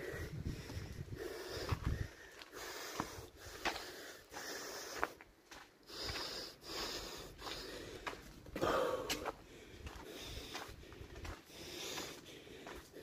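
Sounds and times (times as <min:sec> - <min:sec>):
person breathing close to microphone: 0:00.0 - 0:05.2, 0:05.8 - 0:13.0.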